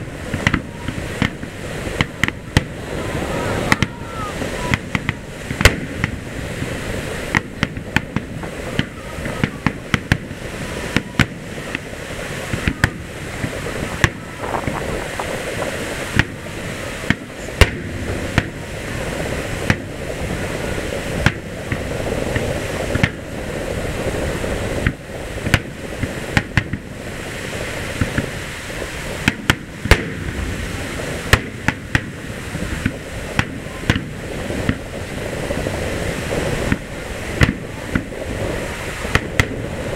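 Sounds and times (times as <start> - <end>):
background rumble: 0.0 - 39.9
firework shells bursting: 0.0 - 39.9.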